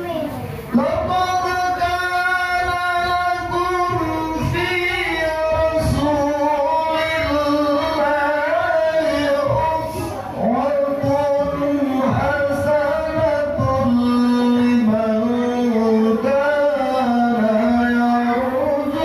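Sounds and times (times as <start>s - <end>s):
man chanting into a microphone: 0.6s - 19.0s.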